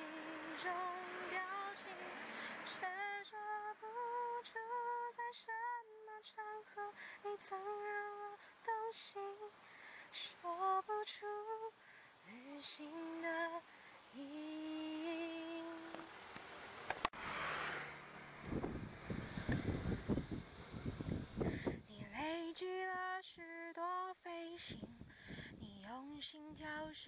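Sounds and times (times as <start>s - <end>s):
woman singing unaccompanied: 0.0s - 16.2s, 21.4s - 27.0s.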